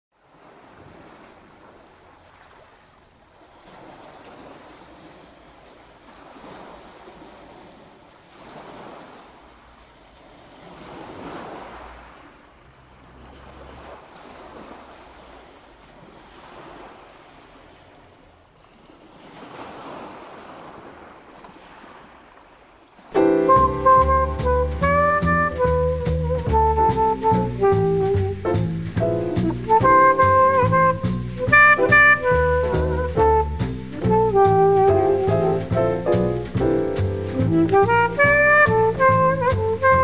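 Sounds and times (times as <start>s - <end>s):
waves washing over shingle: 0.2s - 40.0s.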